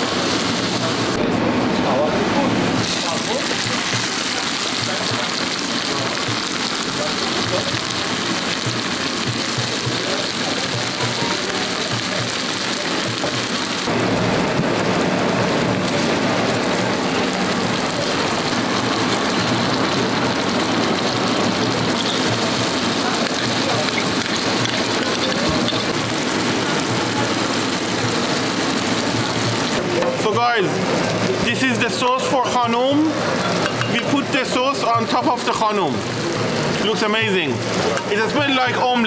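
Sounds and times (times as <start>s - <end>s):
oil sizzling in a frying pan: 0.0s - 1.2s, 2.8s - 14.1s, 14.7s - 30.1s, 31.4s - 39.0s.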